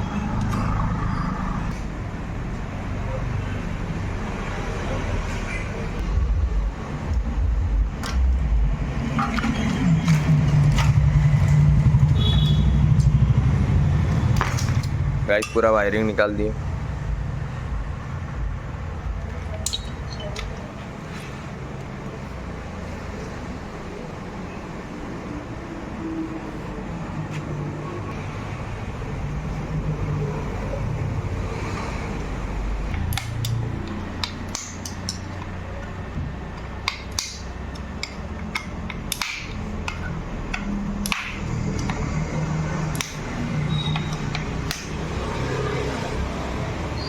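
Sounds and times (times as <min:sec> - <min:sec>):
low rumble of road traffic: 0:00.0 - 0:47.0.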